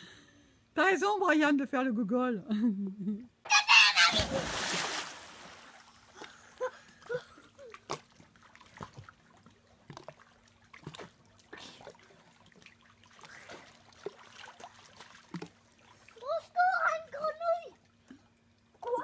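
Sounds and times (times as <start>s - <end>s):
faint steady hum: 0.0s - 19.0s
pool water splashing: 3.5s - 19.0s.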